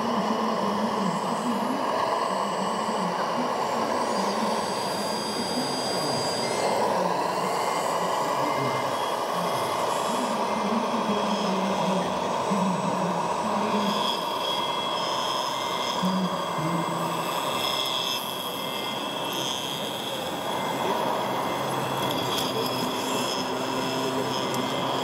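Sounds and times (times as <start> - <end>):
faint beeping: 0.0 - 25.0
model machine engine running: 0.0 - 25.0.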